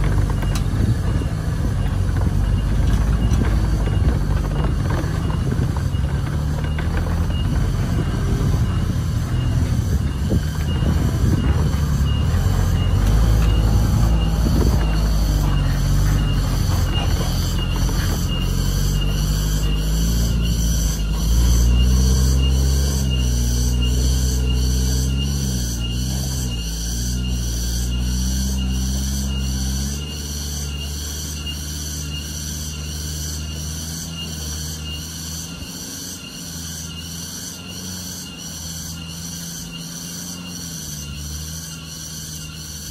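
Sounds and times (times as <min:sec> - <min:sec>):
diesel truck engine labouring: 0:00.0 - 0:42.9.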